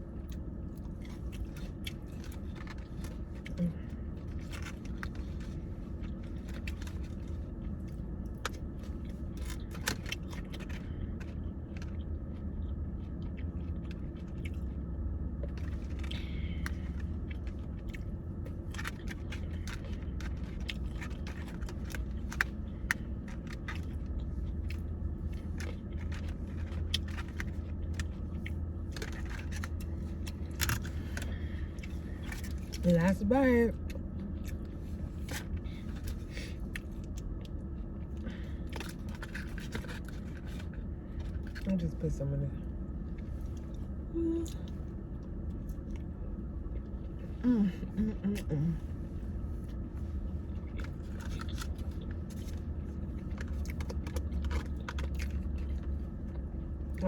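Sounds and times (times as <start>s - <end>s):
chewing and crunching food: 0.0s - 57.0s
low hum: 0.0s - 57.0s.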